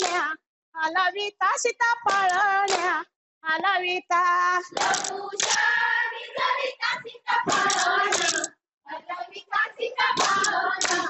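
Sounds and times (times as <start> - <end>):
women singing: 0.0 - 11.0.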